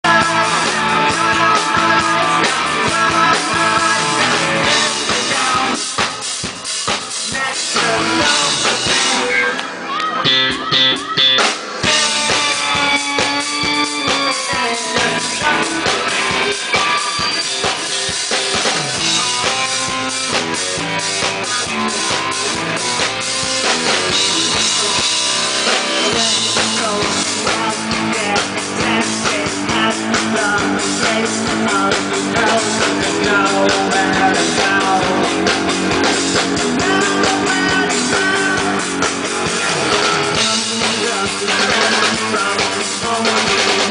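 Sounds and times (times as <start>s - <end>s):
band music with drums and guitar: 0.0s - 43.9s.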